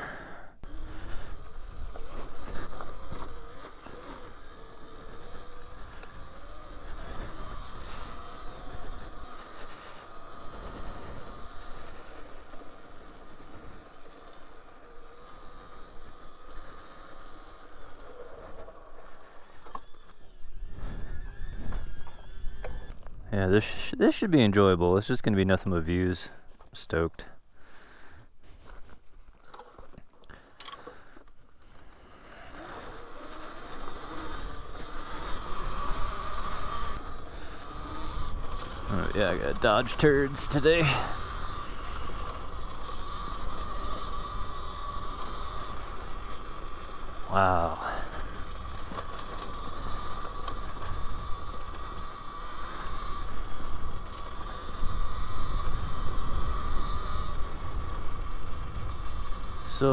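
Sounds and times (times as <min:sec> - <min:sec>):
rumbling wind: 0:00.0 - 0:24.4, 0:30.4 - 0:59.9
electric motor whine: 0:00.0 - 0:26.1, 0:27.6 - 0:59.9.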